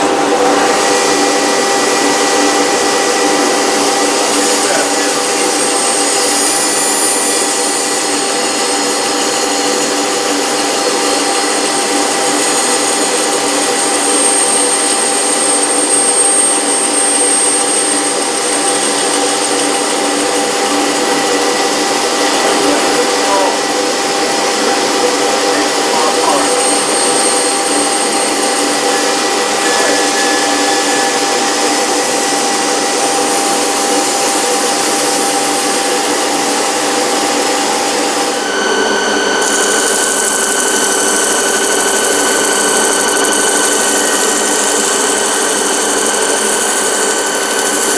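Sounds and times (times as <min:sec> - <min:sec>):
power tool humming: 0:00.0 - 0:47.9.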